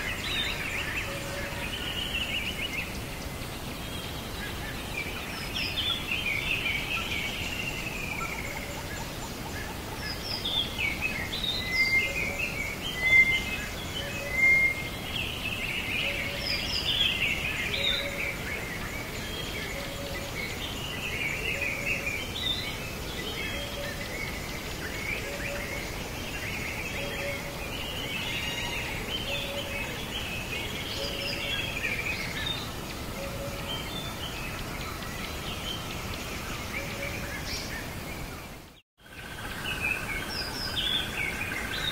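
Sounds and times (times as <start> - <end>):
birds chirping and calling: 0.0 - 41.9
steady background hiss: 0.0 - 41.9.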